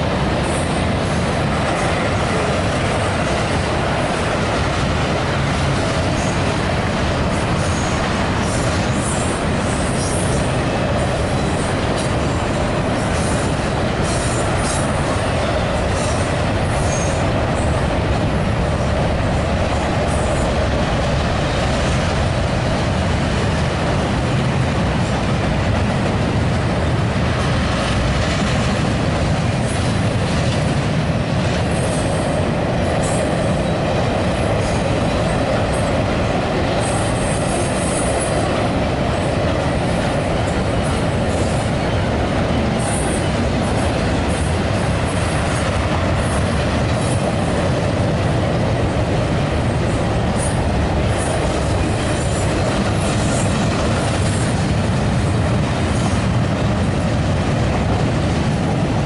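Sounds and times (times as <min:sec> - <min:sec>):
freight train wheels rumbling on rail: 0:00.0 - 0:59.0.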